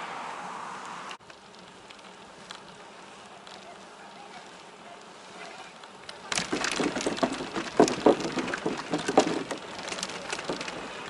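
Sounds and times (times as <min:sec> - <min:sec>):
bicycle rattling on rough trail: 0:01.2 - 0:11.0.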